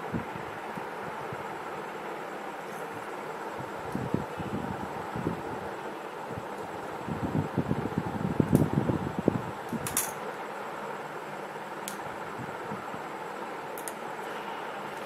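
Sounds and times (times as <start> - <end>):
fan hiss: 0.0 - 15.0.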